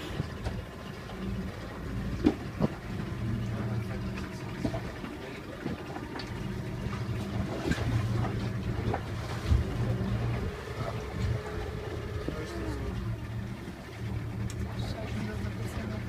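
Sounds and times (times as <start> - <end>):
boat motor humming: 0.0 - 16.0
water washing around hull: 0.0 - 16.0.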